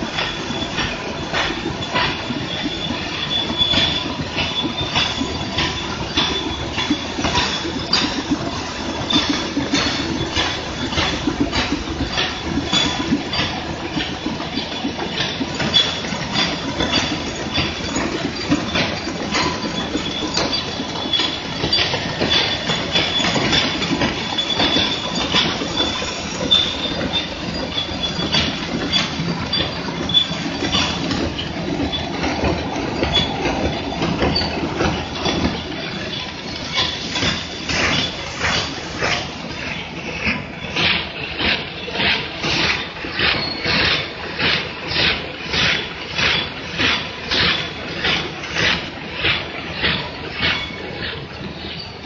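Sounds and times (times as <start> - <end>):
packing machine clattering: 0.0 - 52.0.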